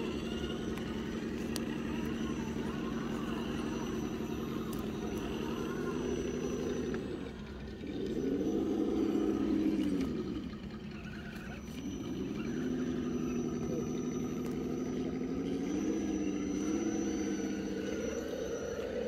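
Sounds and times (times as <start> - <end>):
electric motor and gearbox whining: 0.0 - 19.0.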